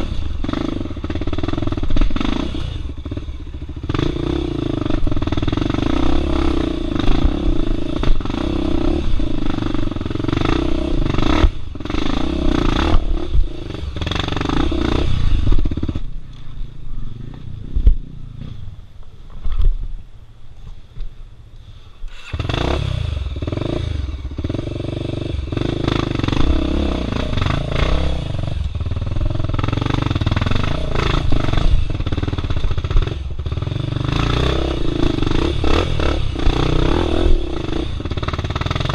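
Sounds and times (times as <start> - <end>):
motorcycle engine with throttle blips: 0.0 - 21.2, 22.1 - 38.9.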